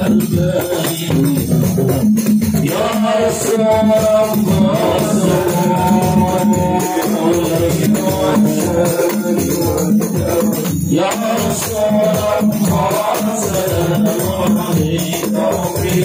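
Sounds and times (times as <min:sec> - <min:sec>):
men singing together: 0:00.0 - 0:16.0
repeating percussion beat: 0:00.0 - 0:16.0.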